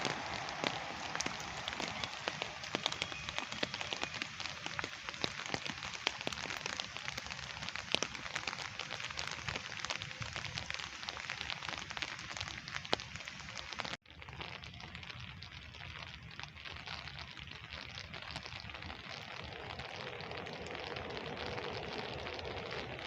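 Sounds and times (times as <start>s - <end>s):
heavy rain falling: 0.0s - 14.0s, 14.7s - 23.0s
raindrops ticking on hard surface: 0.0s - 23.0s.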